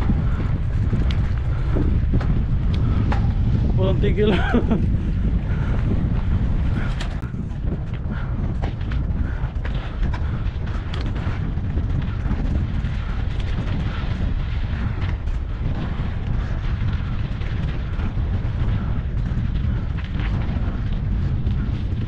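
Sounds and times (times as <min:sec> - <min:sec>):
bike rattles and crunches: 0:00.0 - 0:22.0
wind buffeting microphone: 0:00.0 - 0:22.0.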